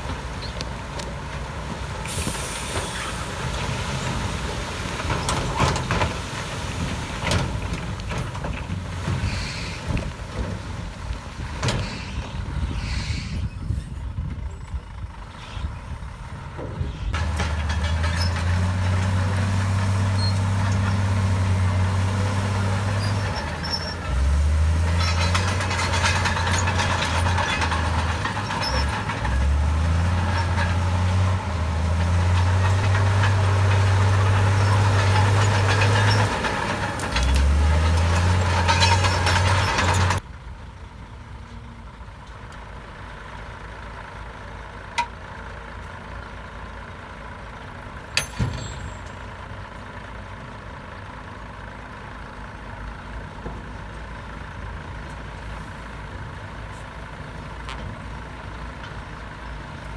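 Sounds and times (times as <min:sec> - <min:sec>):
heavy diesel machinery working: 0:00.0 - 0:59.9.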